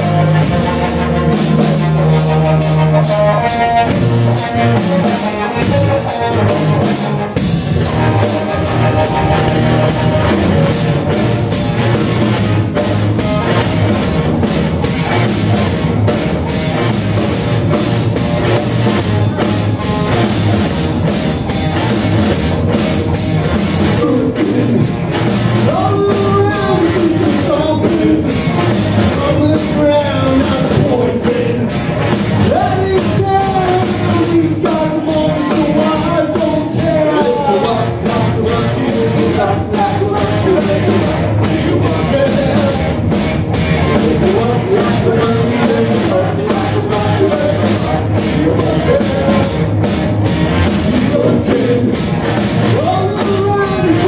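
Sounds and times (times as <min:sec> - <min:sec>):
bass guitar: 0:00.0 - 0:54.0
distorted electric guitar: 0:00.0 - 0:54.0
drum kit and cymbal hits: 0:00.0 - 0:54.0
sliding lead guitar line: 0:00.0 - 0:54.0.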